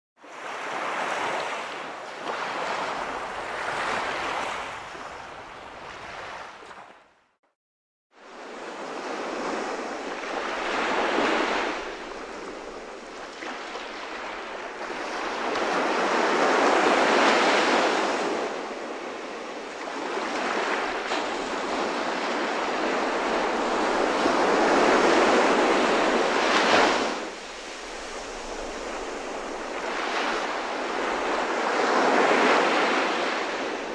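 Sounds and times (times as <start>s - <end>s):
waves breaking: 0.2s - 7.0s, 8.5s - 33.9s.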